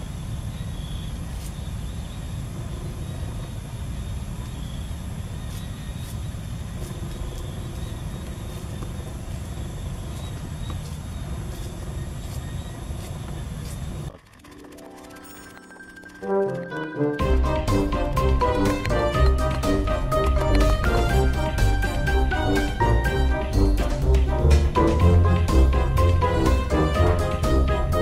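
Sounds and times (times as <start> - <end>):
wood fire rumbling and hissing: 0.0 - 14.3, 17.2 - 28.0.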